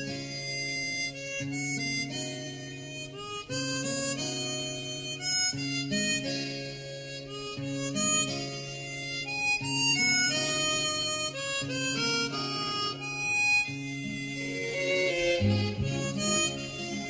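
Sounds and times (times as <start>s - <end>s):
harmonica melody: 0.0s - 17.0s
light instrumental accompaniment: 0.0s - 17.0s.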